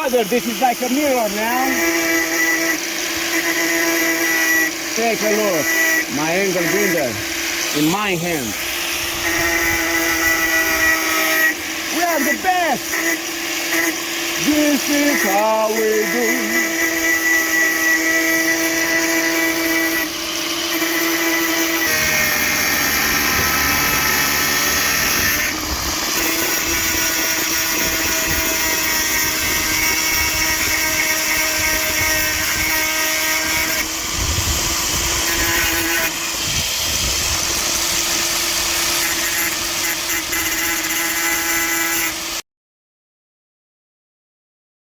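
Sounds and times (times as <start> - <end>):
angle grinder grinding steel: 0.0 - 42.4.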